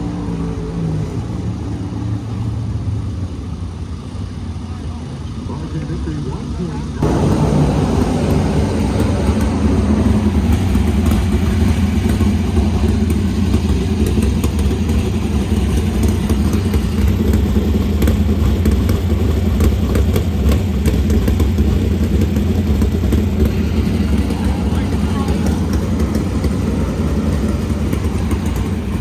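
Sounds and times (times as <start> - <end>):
car engine running: 2.3 - 29.0.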